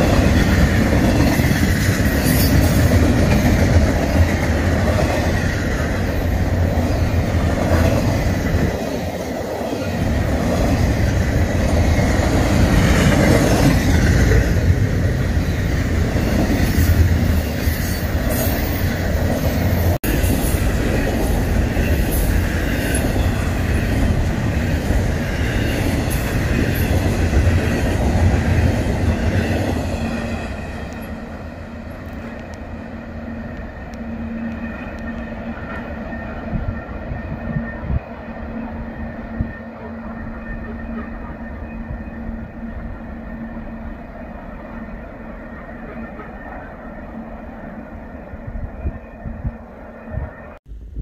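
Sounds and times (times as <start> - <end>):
freight train rumbling on rails: 0.0 - 51.0.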